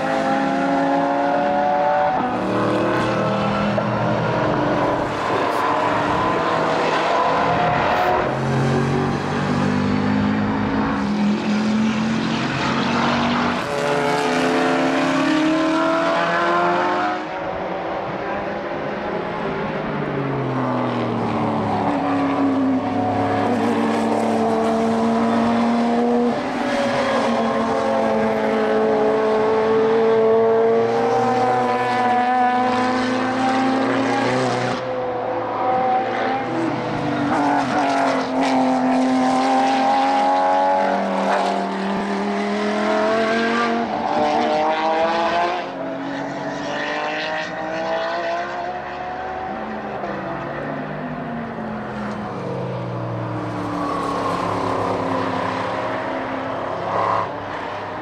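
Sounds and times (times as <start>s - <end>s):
race car engines accelerating: 0.0s - 58.0s.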